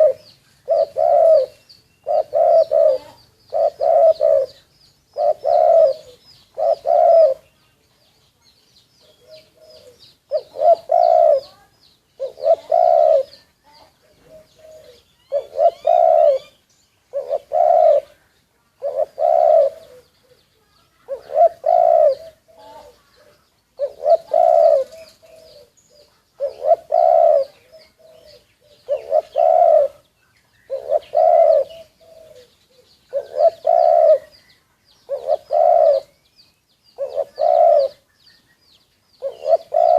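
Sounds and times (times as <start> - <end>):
doves cooing: 0.0 - 7.6, 9.0 - 36.2, 37.0 - 38.1, 39.2 - 39.9
small birds chirping: 0.0 - 39.9.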